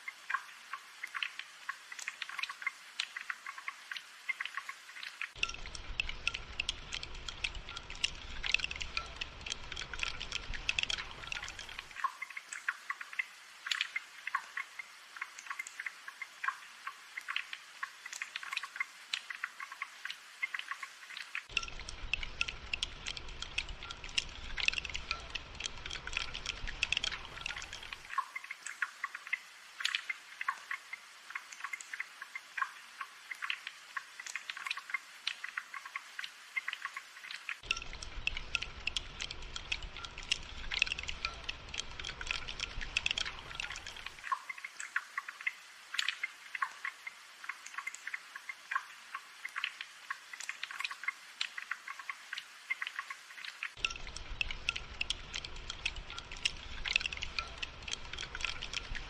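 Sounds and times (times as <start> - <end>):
rain drips on hard surfaces: 0.0 - 59.0.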